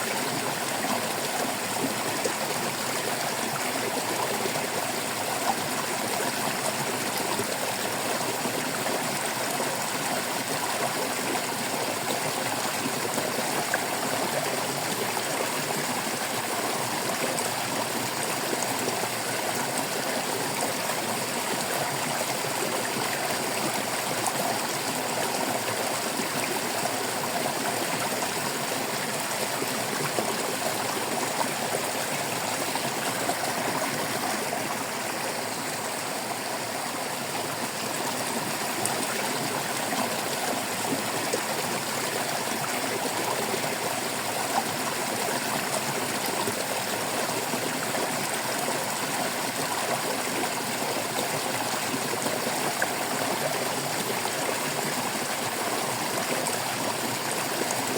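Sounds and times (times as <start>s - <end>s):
stream water babbling: 0.0s - 57.9s.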